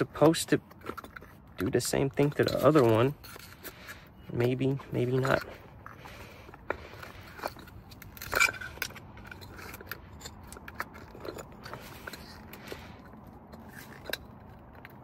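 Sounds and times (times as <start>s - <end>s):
metal scraping: 0.0s - 15.0s
small metallic clicks: 0.0s - 15.0s.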